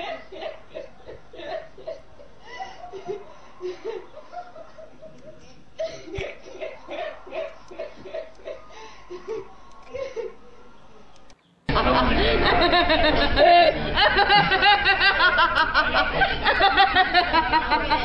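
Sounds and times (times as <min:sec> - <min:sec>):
woman laughing uncontrollably: 0:00.0 - 0:10.4, 0:11.7 - 0:18.0.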